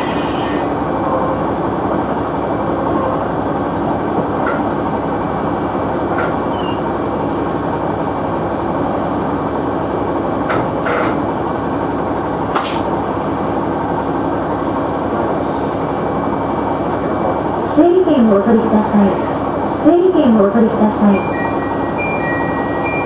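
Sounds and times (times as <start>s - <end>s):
diesel engine idling: 0.1s - 21.2s.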